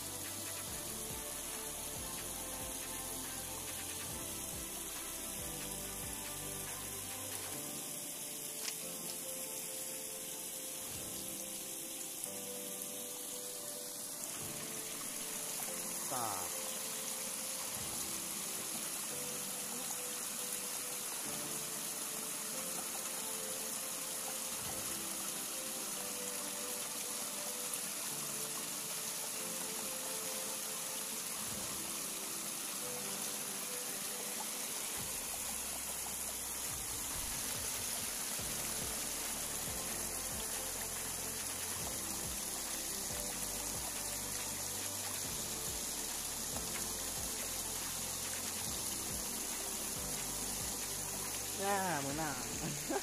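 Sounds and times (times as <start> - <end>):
soft background music: 0.0 - 53.0
waterfall splashing over rocks: 0.0 - 53.0.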